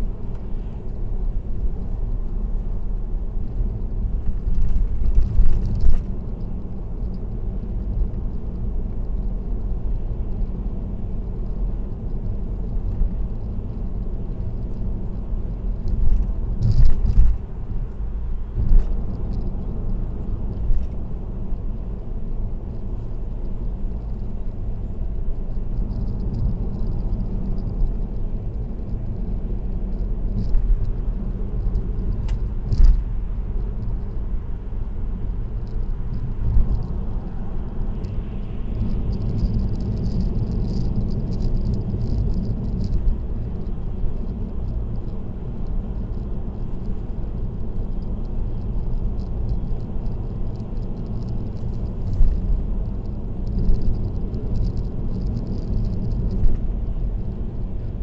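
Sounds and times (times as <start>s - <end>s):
car road and tyre rumble: 0.0s - 58.0s.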